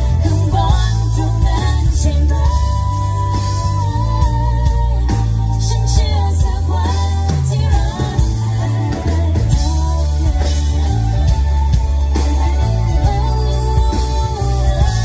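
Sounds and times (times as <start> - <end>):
drums: 0.0 - 15.0
electric bass: 0.0 - 15.0
woman singing: 0.0 - 15.0.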